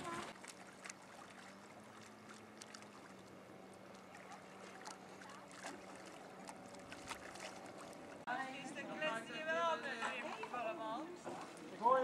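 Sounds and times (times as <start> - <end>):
boat engine humming: 0.0 - 12.0
water lapping: 0.0 - 12.0.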